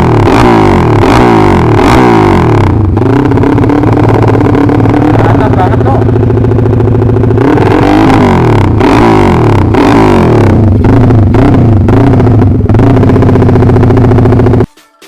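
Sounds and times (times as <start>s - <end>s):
engine revving loud exhaust: 0.0s - 14.7s
sharp exhaust cracks: 0.0s - 14.7s.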